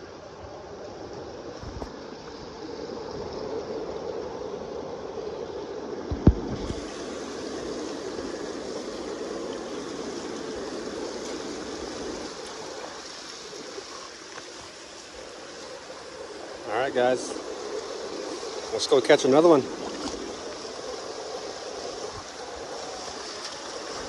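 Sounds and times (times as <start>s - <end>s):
river current rushing: 0.0s - 24.0s.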